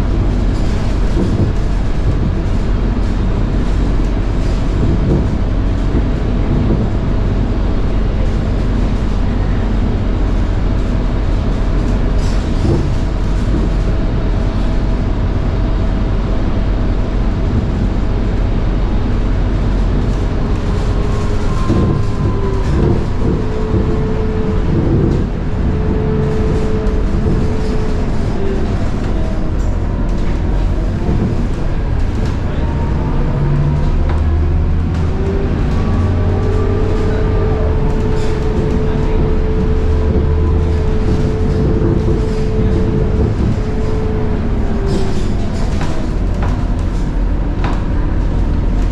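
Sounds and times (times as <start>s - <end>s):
bus diesel engine: 0.0s - 48.9s
road rumble: 0.0s - 48.9s.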